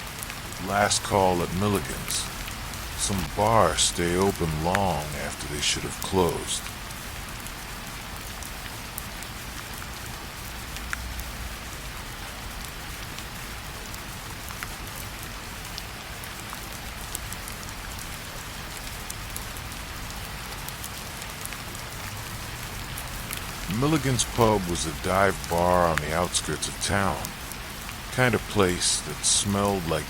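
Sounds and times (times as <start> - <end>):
steady rainfall: 0.0 - 30.0.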